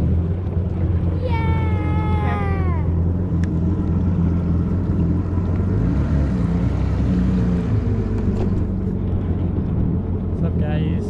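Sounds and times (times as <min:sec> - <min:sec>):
jet ski engine droning: 0:00.0 - 0:11.0.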